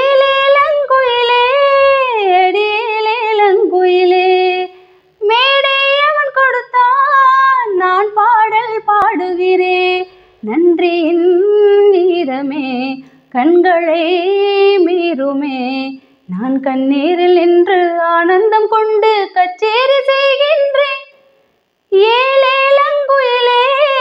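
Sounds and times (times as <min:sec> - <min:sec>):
woman singing unaccompanied: 0:00.0 - 0:21.2, 0:21.9 - 0:24.0.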